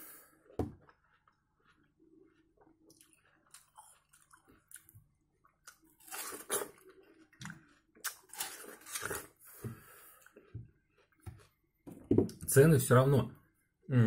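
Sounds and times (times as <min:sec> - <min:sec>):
man biting and chewing watermelon: 0:00.0 - 0:11.8.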